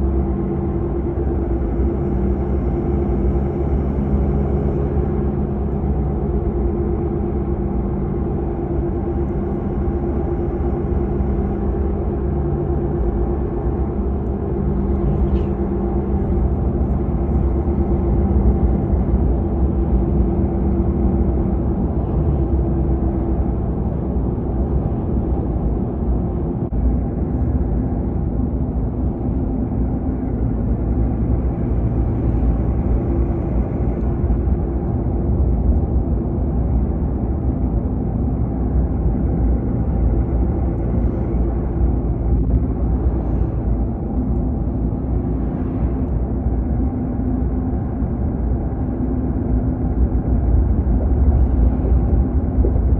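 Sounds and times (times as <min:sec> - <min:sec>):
car engine hum: 0:00.0 - 0:52.9
road noise: 0:00.0 - 0:52.9.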